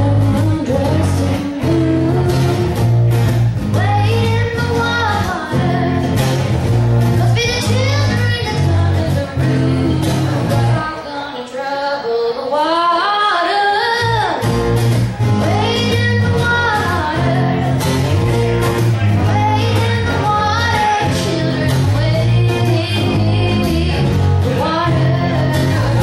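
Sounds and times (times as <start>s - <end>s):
girl singing: 0.0s - 3.0s, 3.6s - 14.6s, 15.2s - 18.0s, 19.0s - 26.0s
strummed guitars: 0.0s - 11.8s, 13.4s - 26.0s.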